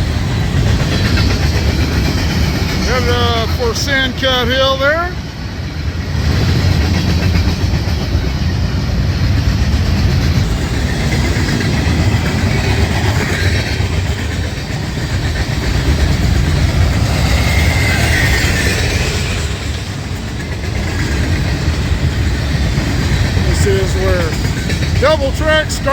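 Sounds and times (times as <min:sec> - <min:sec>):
freight train rumbling past: 0:00.0 - 0:25.9
train cars clickety-clack: 0:00.0 - 0:25.9.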